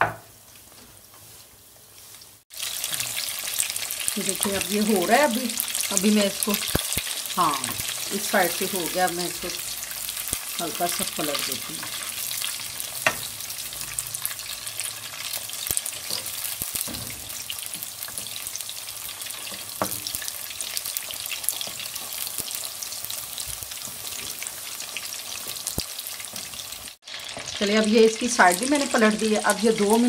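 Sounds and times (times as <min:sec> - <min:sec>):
chicken deep-frying in hot oil: 0:00.0 - 0:30.0.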